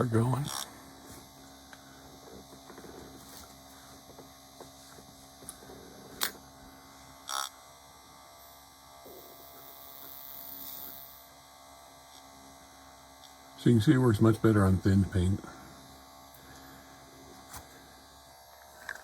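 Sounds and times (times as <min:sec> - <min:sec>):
electric paint stirrer humming: 0:00.0 - 0:19.0.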